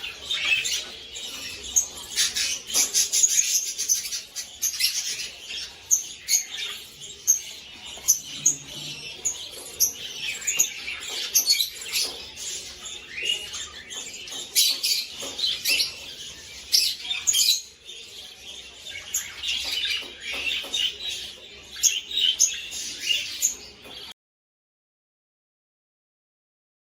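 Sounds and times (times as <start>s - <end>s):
budgerigars chirping: 0.0s - 24.1s.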